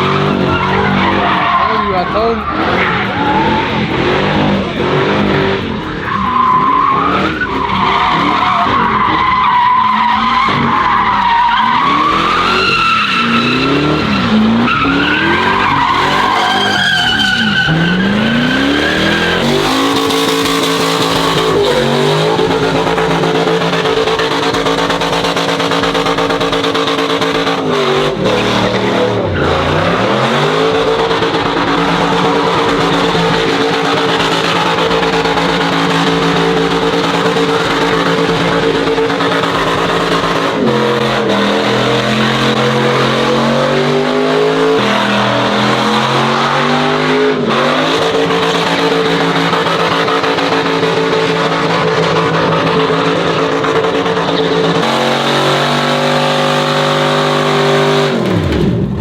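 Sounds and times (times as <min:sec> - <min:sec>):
engine revving hard: 0:00.0 - 0:59.0
tires squealing: 0:00.0 - 0:59.0.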